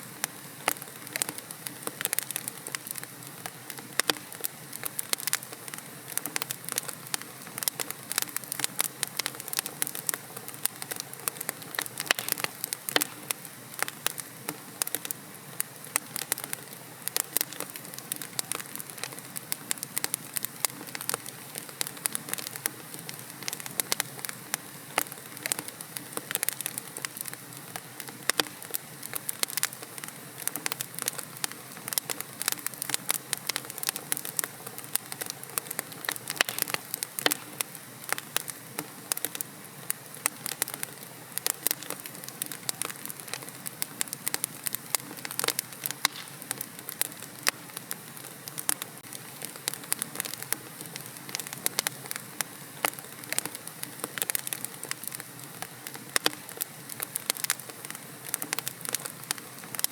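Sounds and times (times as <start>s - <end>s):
logs burning crackling and popping: 0.0s - 59.9s.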